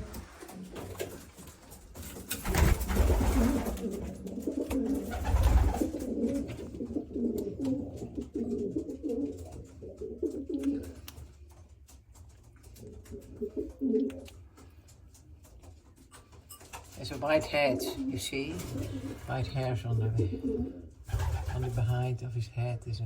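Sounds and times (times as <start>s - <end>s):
pigeons cooing: 0.0s - 11.6s, 12.6s - 15.2s, 17.0s - 21.8s.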